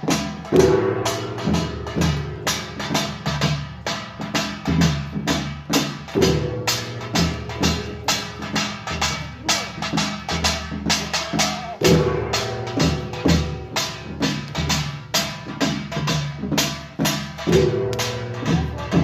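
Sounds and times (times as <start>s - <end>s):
percussion ensemble with gongs and drums: 0.0s - 19.0s.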